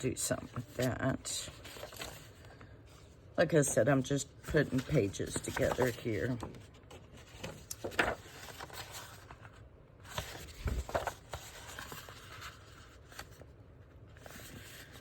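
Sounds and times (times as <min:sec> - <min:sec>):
paper rustling and sliding: 0:00.5 - 0:03.2, 0:04.4 - 0:15.0.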